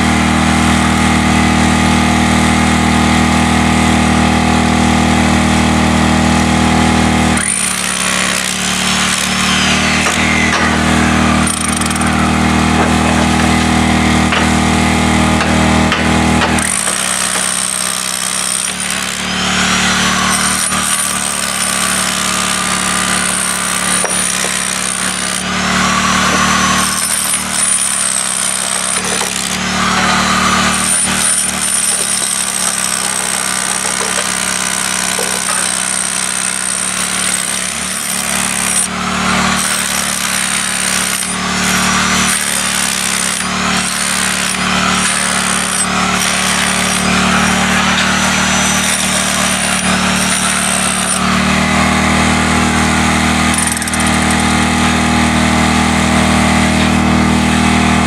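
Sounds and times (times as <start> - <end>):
hammer drill into concrete: 0.0 - 58.0.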